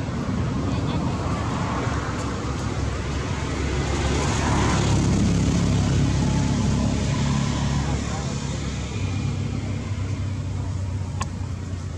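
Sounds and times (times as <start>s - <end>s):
low engine rumble: 0.0s - 11.9s.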